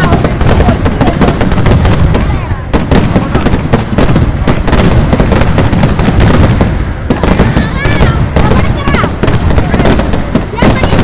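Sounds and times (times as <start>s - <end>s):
firecracker blasts: 0.0s - 11.0s.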